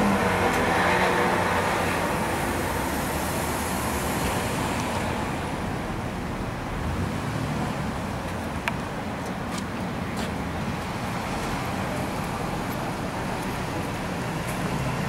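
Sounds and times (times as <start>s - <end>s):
steady hum of road traffic: 0.0s - 15.0s.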